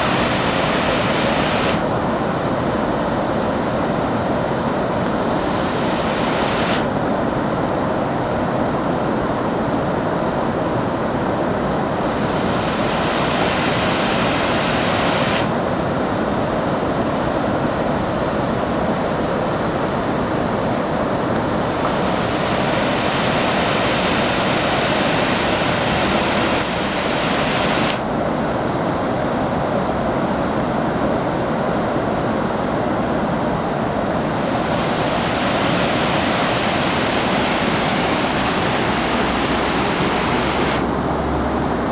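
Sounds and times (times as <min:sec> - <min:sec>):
waterfall rushing: 0:00.0 - 0:30.4, 0:32.1 - 0:41.9.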